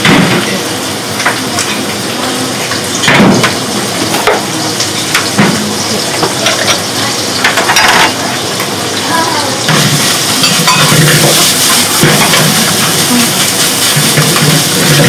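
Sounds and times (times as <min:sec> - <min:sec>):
kitchen hiss: 0:00.0 - 0:15.0.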